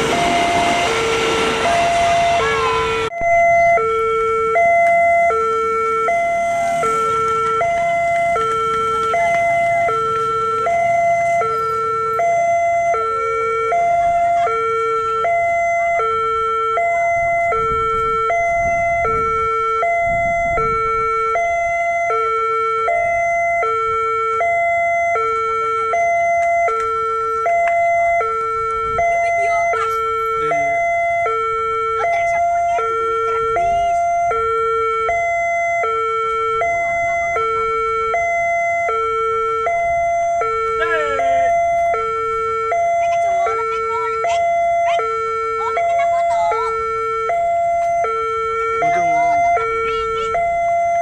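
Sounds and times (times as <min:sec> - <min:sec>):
two-tone crossing alarm: 0:00.0 - 0:51.0.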